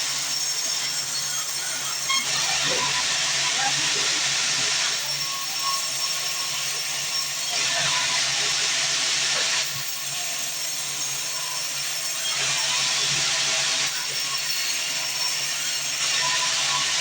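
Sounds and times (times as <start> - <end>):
band saw cutting log: 0.0 - 17.0.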